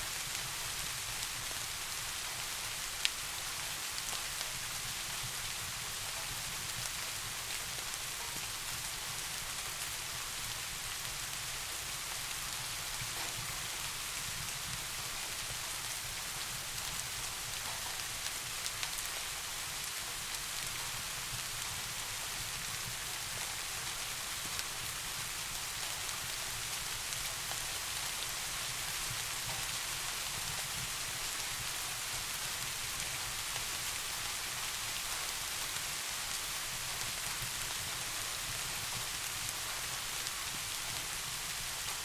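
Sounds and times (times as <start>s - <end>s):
soft rain falling: 0.0s - 42.0s.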